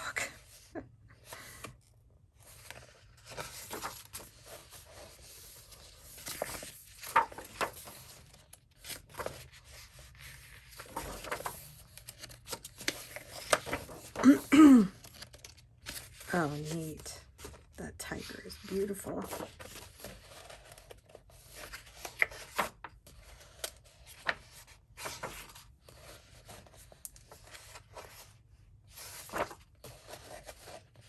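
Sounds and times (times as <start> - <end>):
book pages turning: 1.2 - 31.0.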